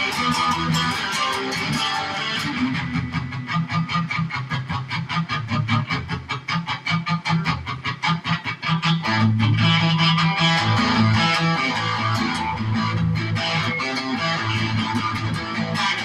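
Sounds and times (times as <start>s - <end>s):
electric guitar rock riff: 0.0s - 16.0s.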